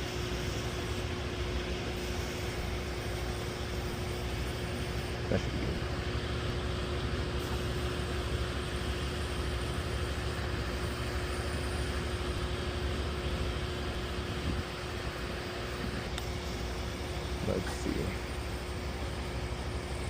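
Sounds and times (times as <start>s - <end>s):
constant hum tone: 0.0s - 20.0s
hvac blower and fan rushing: 0.0s - 20.0s.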